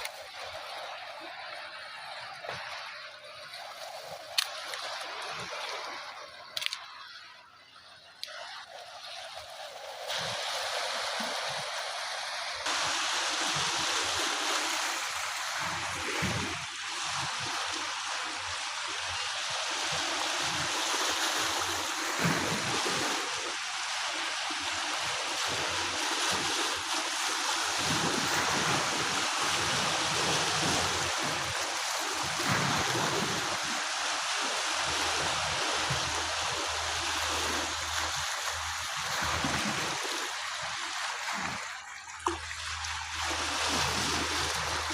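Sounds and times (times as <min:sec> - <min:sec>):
water rushing: 0:00.0 - 0:44.9.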